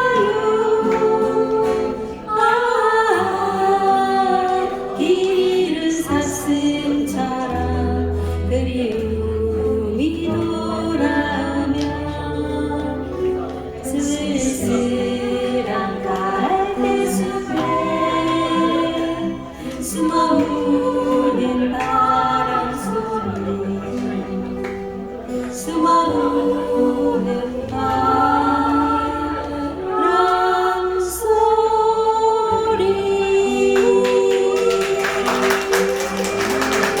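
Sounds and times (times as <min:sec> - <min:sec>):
acoustic guitar: 0:00.0 - 0:37.0
women singing in harmony: 0:00.0 - 0:37.0.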